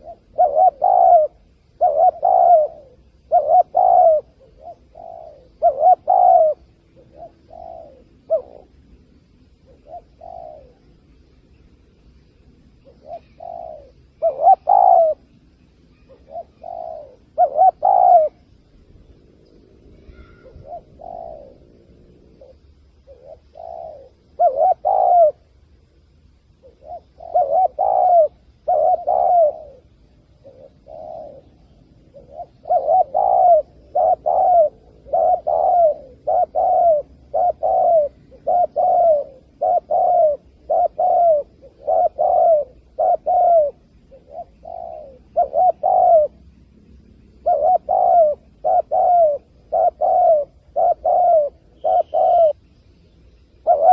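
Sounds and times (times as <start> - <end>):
dove cooing: 0.0 - 11.1, 12.5 - 25.6, 26.5 - 46.5, 47.3 - 52.6, 53.5 - 53.9.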